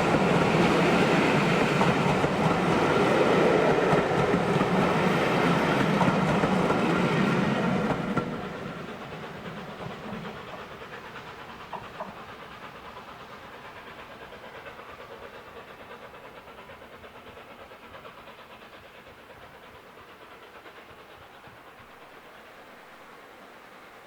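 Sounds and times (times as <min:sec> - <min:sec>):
steam train running: 0:00.0 - 0:24.0.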